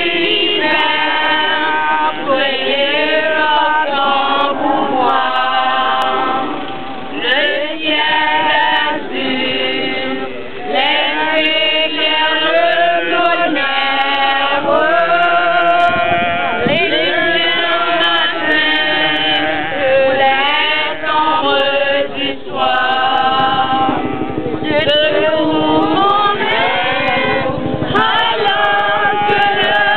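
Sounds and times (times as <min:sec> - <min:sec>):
women singing without instruments: 0:00.0 - 0:29.9.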